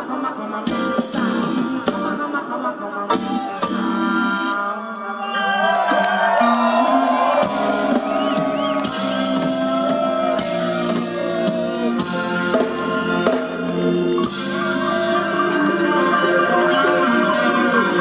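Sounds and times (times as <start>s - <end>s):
reggae band playing: 0.0s - 4.6s, 5.8s - 18.0s.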